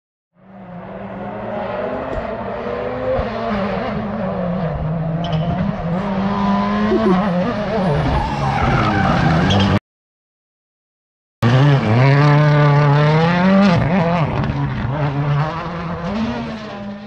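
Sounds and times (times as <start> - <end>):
rally car engine revving: 0.4 - 9.8, 11.4 - 17.0.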